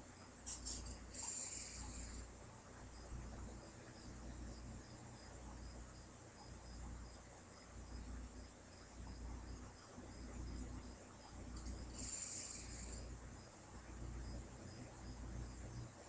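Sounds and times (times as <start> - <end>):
cricket chirping: 0.0 - 16.0
low steady hum: 0.0 - 16.0.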